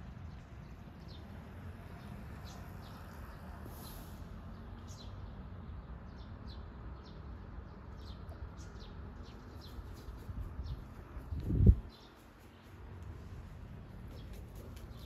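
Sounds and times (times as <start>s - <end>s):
low outdoor background noise: 0.0s - 15.0s
small birds chirping: 0.0s - 15.0s.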